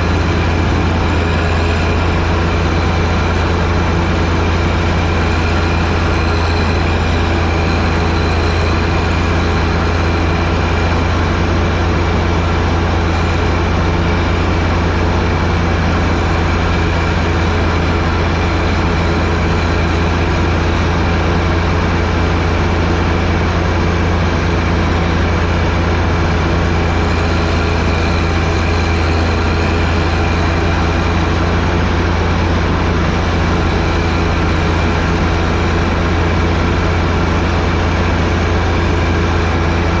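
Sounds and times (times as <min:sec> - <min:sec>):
tractor diesel engine droning: 0:00.0 - 0:40.0.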